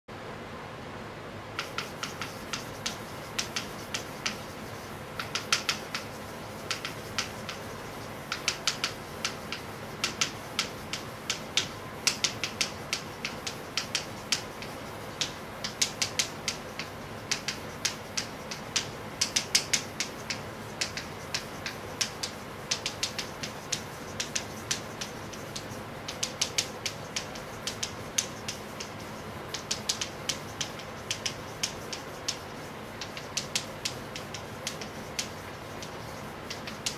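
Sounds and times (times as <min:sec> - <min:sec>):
chalk writing on blackboard: 0:01.6 - 0:36.9.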